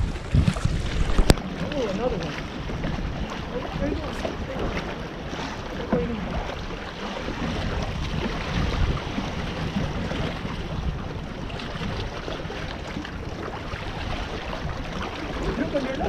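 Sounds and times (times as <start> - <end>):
seawater lapping: 0.0 - 16.0
waves splashing against rocks: 0.0 - 16.0
wind buffeting microphone: 0.0 - 16.0.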